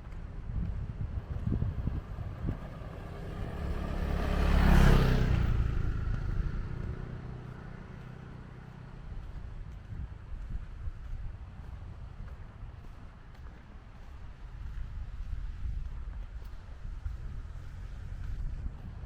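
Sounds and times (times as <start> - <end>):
motor vehicle passing by: 0.4 - 10.6, 11.6 - 19.0.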